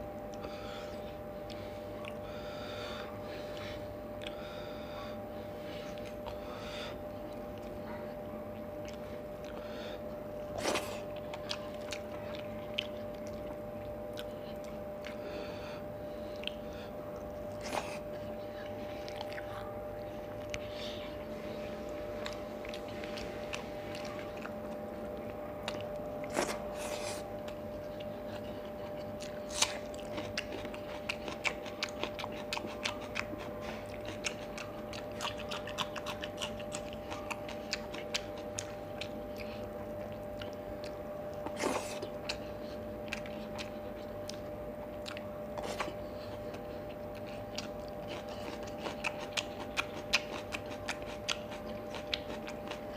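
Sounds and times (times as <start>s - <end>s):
faint hum: 0.0s - 52.9s
wet chewing and crunching: 0.0s - 52.9s.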